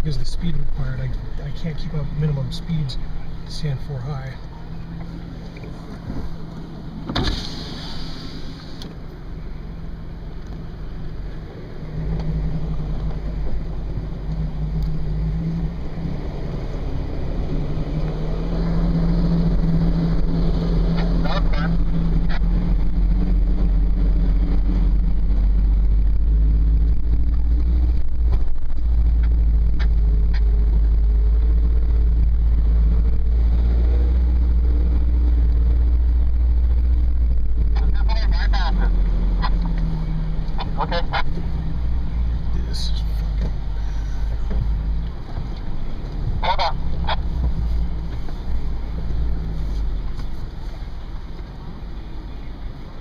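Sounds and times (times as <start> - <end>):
car engine rumbling under load: 0.0 - 53.0.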